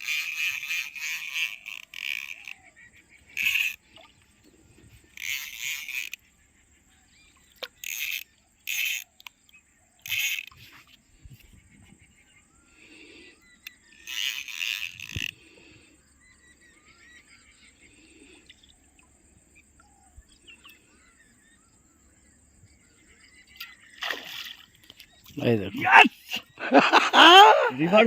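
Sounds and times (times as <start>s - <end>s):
frogs croaking: 0.0s - 28.0s
high insect whine: 0.0s - 28.0s.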